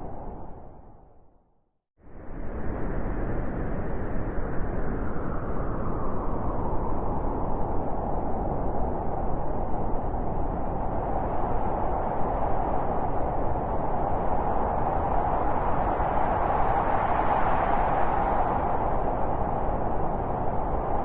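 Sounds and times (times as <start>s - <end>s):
howling blizzard wind: 0.0s - 1.2s, 2.0s - 21.0s.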